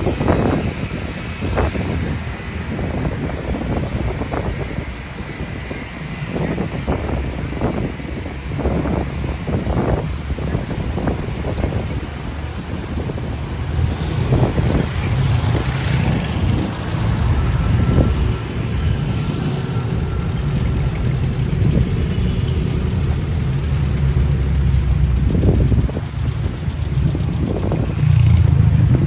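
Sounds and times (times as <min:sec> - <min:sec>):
car and truck engines passing: 0:00.0 - 0:29.0.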